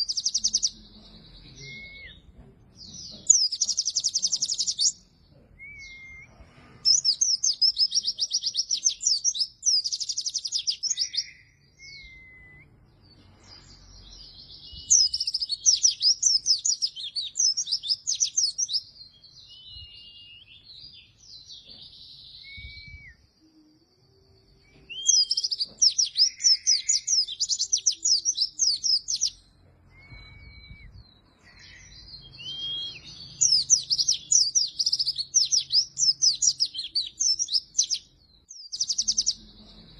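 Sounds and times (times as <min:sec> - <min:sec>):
bird high rapid chirping: 0:00.0 - 0:02.2, 0:03.0 - 0:05.0, 0:06.9 - 0:21.2, 0:24.7 - 0:39.9
thin whistled bird notes: 0:05.6 - 0:39.8.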